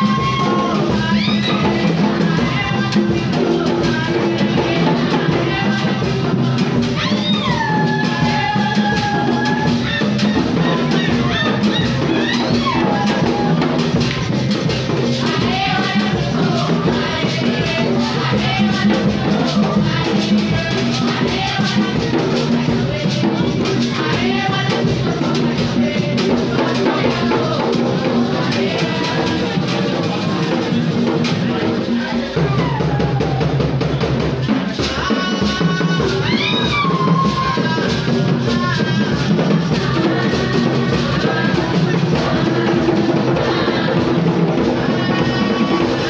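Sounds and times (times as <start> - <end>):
hand drums playing rhythm: 0.0 - 46.0
voices singing: 0.0 - 46.0.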